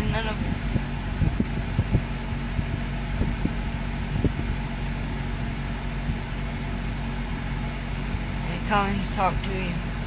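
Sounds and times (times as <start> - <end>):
low mechanical hum and rumble: 0.0 - 10.0.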